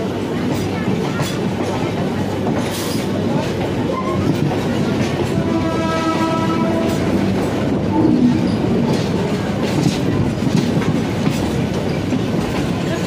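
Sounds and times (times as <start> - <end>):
train coaches rolling past: 0.0 - 13.0.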